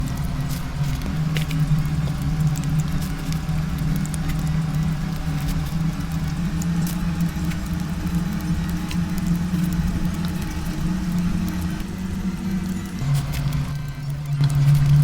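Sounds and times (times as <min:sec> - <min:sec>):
small clicks: 0:00.0 - 0:15.0
steady low hum: 0:00.0 - 0:15.0.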